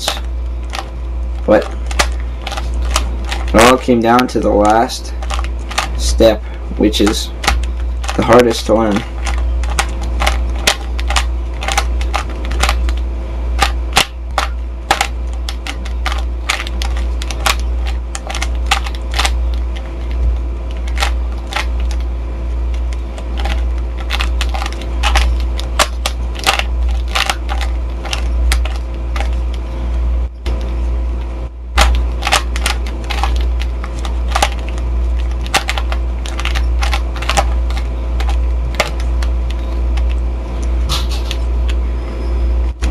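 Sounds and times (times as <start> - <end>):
low electrical hum: 0.0 - 42.9
puzzle cube clicking: 1.5 - 6.0, 7.0 - 13.0, 13.6 - 22.1, 22.7 - 29.6, 31.8 - 40.2.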